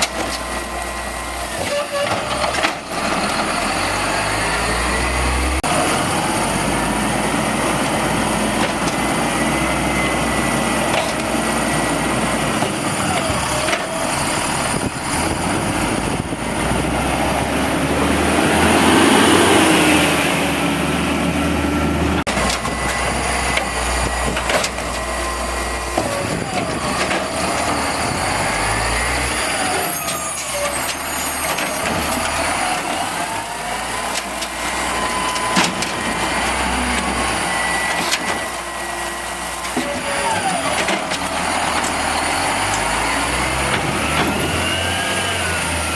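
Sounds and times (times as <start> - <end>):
garbage truck engine running: 0.0 - 45.9.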